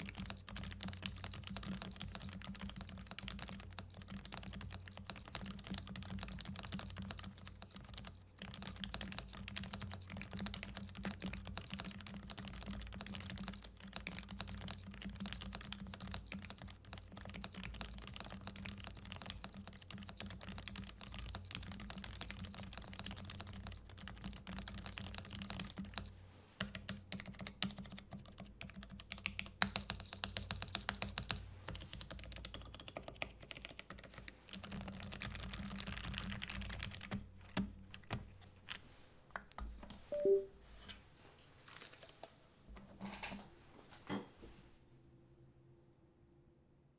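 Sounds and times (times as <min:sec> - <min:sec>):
mechanical keyboard typing: 0:00.0 - 0:38.8, 0:40.1 - 0:40.4.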